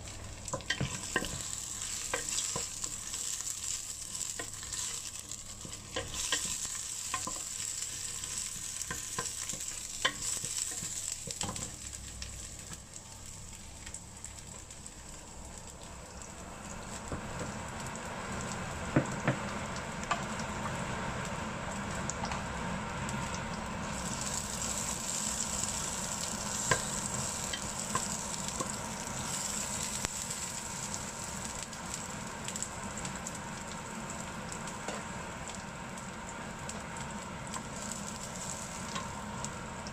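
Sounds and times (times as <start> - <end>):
shallots sizzling in hot oil: 0.0 - 39.9.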